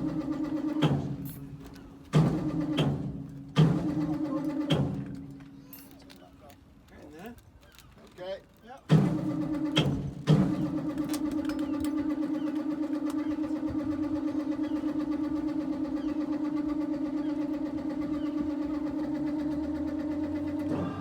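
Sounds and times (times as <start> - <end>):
motor running with fast pulse: 0.0 - 5.7, 8.9 - 21.0.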